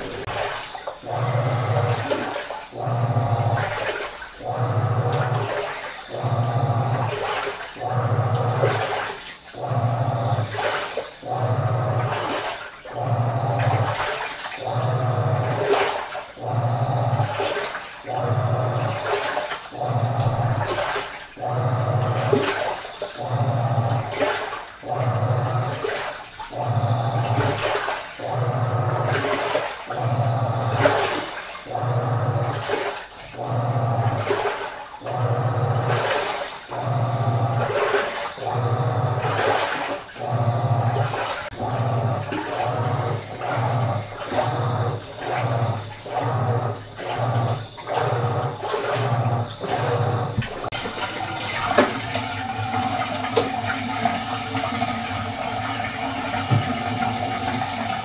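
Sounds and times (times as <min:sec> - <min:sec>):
washing machine motor humming: 0:00.0 - 0:58.0
water sloshing in drum: 0:00.0 - 0:58.0.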